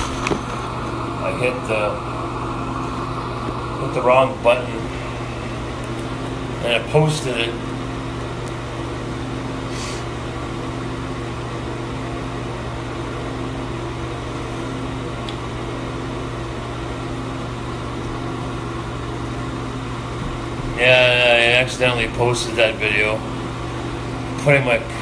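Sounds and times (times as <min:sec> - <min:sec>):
fan motor humming: 0:00.0 - 0:25.0.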